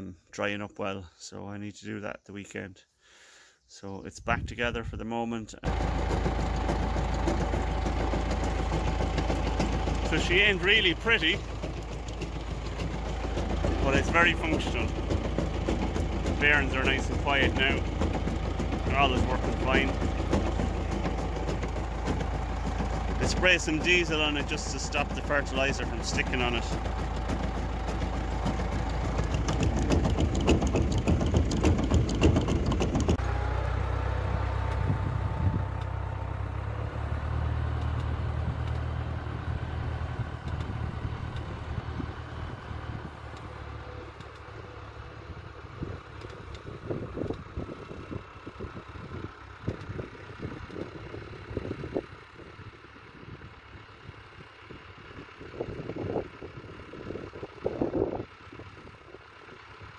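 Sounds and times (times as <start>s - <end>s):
tractor engine running: 5.6s - 59.9s.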